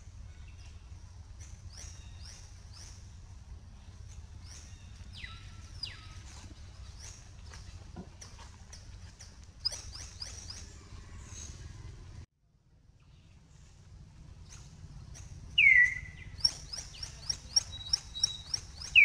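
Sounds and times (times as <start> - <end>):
low steady rumble: 0.0 - 19.0
birds chirping: 0.1 - 12.2, 14.4 - 19.0.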